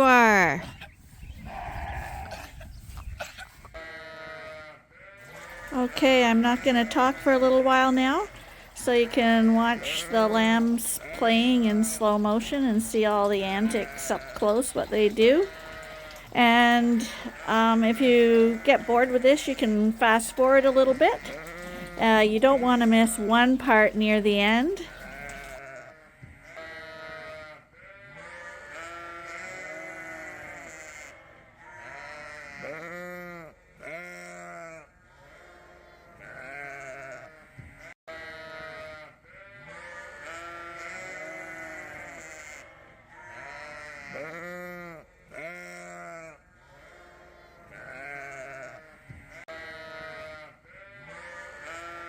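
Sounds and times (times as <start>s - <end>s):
sheep bleating: 1.4s - 2.5s, 3.7s - 14.7s, 15.4s - 52.0s.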